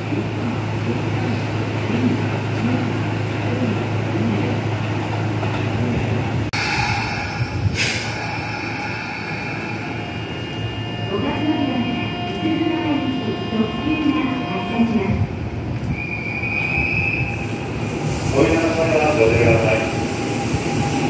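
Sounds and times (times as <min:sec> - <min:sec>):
electric train rumbling on track: 0:00.0 - 0:21.0
standing train humming: 0:00.0 - 0:21.0.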